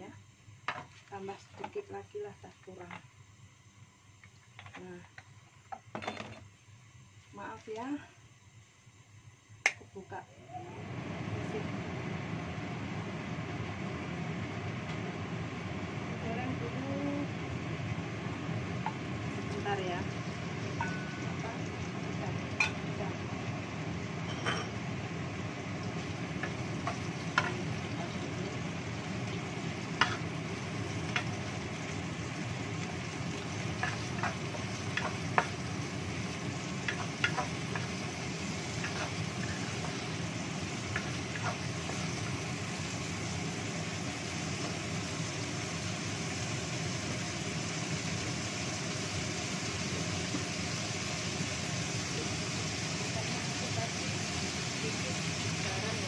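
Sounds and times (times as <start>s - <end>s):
steady low hum: 0.0s - 56.0s
shrimp sizzling in oil: 10.8s - 56.0s.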